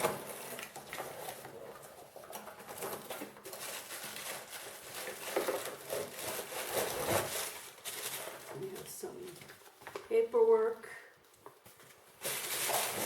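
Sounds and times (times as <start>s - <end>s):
packaging rustling: 0.0s - 10.1s, 11.6s - 13.0s.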